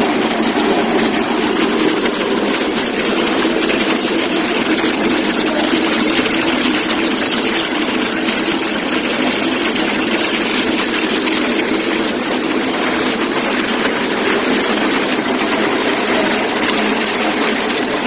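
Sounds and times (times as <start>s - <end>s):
braiding machine clattering: 0.0s - 18.0s.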